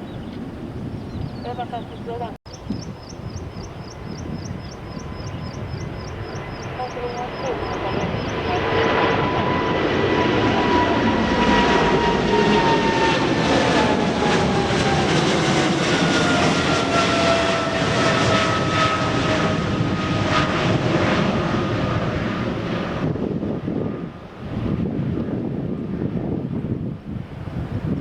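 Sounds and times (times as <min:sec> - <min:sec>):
jet airliner engine noise: 0:00.0 - 0:28.0.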